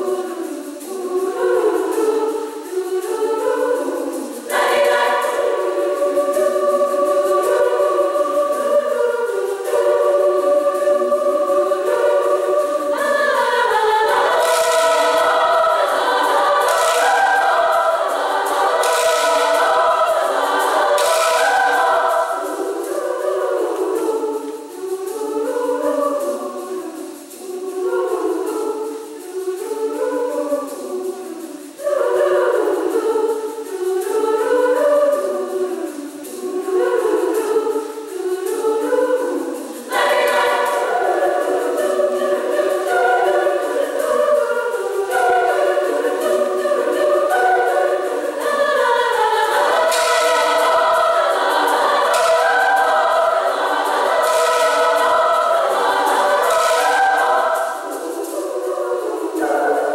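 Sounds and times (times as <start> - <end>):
women's choir singing: 0.0 - 59.9.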